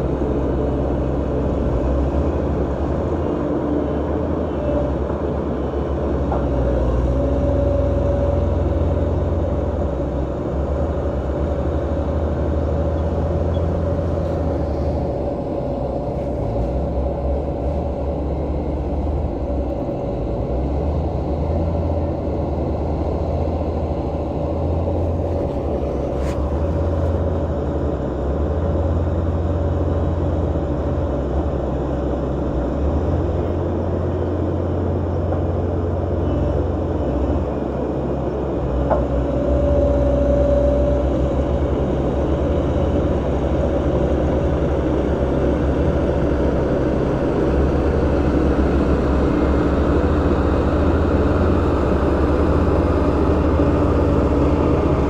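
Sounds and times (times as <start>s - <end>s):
heavy machinery diesel engine rumble: 0.0s - 55.0s.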